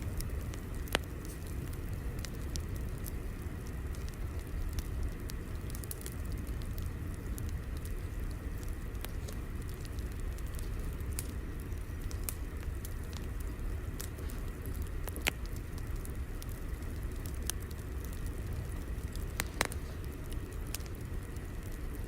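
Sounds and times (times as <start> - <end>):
fire crackling: 0.0 - 22.0
sharp fire pops: 0.0 - 22.0.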